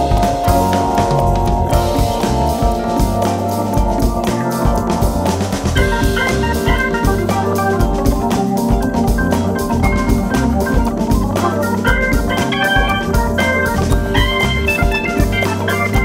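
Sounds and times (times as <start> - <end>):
bass line: 0.0 - 16.0
organ-like keyboard chords: 0.0 - 16.0
steady drum beat: 0.0 - 16.0.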